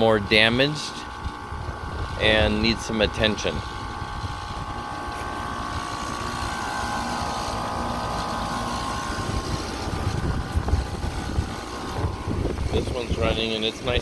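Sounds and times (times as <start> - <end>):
air conditioner unit humming: 0.0 - 14.0
high-pitched whine: 0.0 - 14.0.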